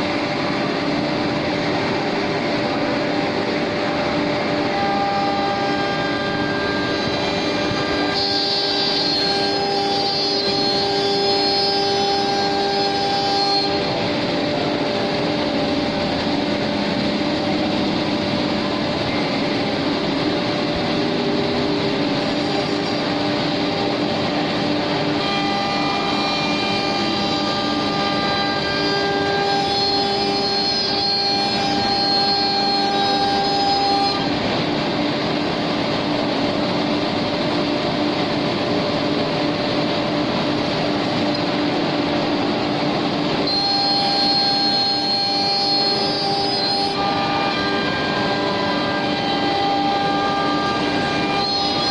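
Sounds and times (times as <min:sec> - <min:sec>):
router spindle whine: 0:00.0 - 0:51.9.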